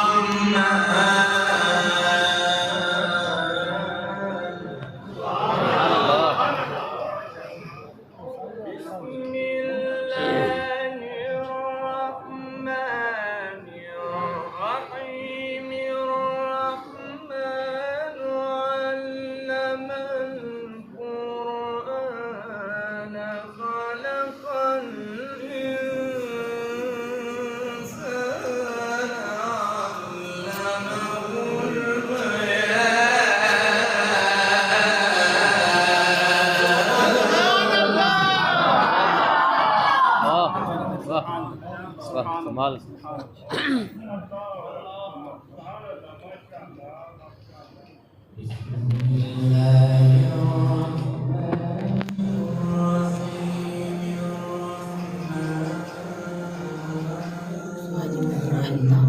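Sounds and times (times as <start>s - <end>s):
man chanting melodically: 0.0s - 7.4s, 8.6s - 39.1s, 48.3s - 59.0s.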